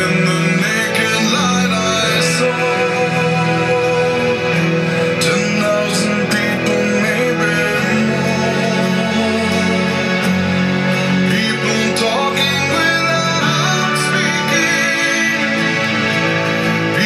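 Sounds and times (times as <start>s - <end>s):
song with singing and guitar: 0.0s - 17.0s.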